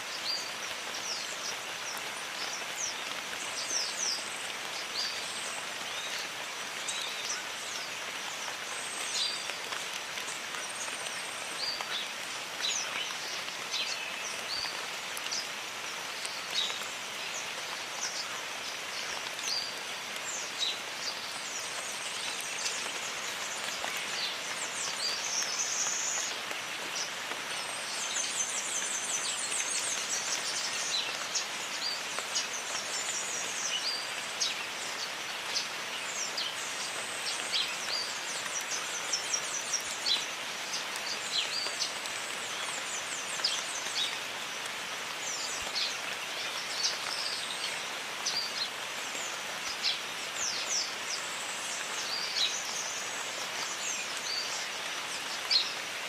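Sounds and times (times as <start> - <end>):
rain falling on foliage: 0.0 - 56.0.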